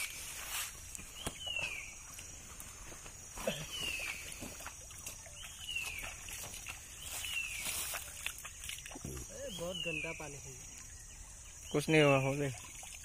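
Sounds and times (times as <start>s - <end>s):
river water splashing: 1.0s - 13.0s.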